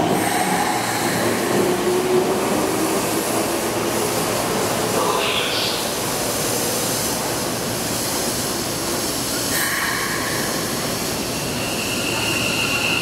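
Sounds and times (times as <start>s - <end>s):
electric train equipment hiss and hum: 0.0s - 13.0s.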